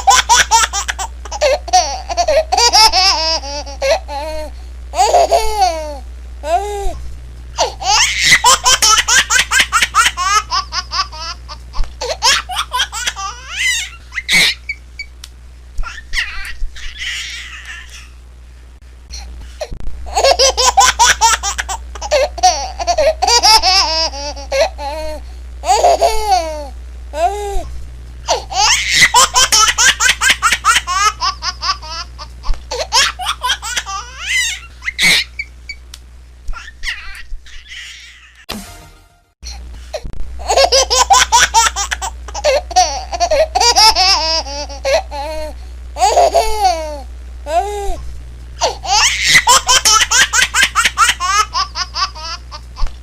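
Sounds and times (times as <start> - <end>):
baby laughing: 0.0 - 6.7, 7.6 - 14.8, 15.8 - 18.1, 20.1 - 27.6, 28.3 - 35.5, 36.5 - 38.5, 40.4 - 47.7, 48.6 - 52.9.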